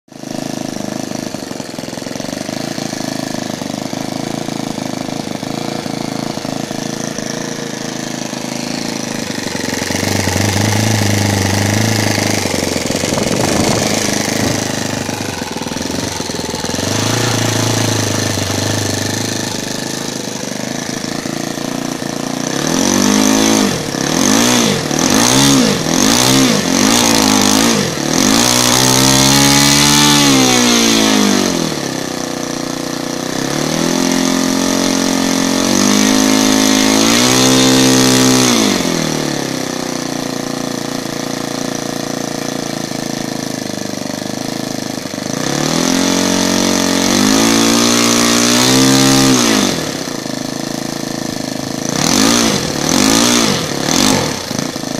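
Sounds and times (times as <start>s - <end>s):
model aircraft engine revving: 0.1s - 54.9s.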